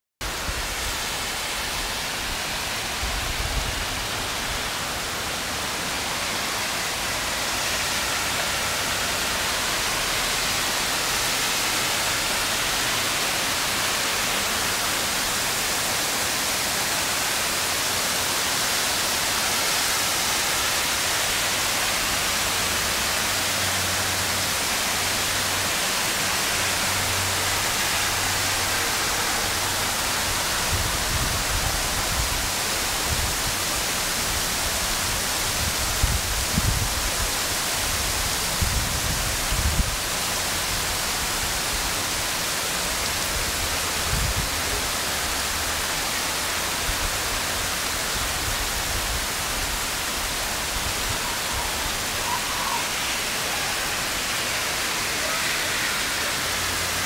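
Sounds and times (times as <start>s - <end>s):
heavy rain falling: 0.2s - 57.0s.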